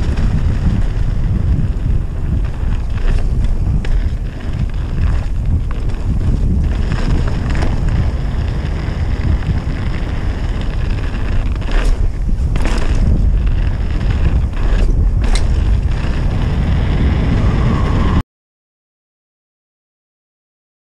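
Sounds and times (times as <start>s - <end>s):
bike rattling: 0.0s - 18.2s
tyres rumbling on dirt trail: 0.0s - 18.2s
wind buffeting microphone: 0.0s - 18.2s.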